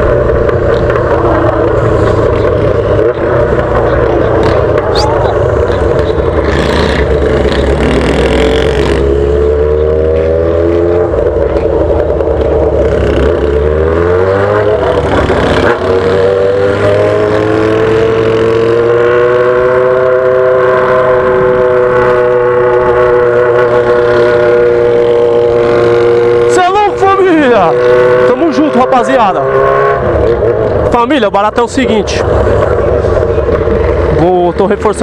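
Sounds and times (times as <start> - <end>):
motorcycle straight-pipe exhaust revving: 0.0 - 35.0.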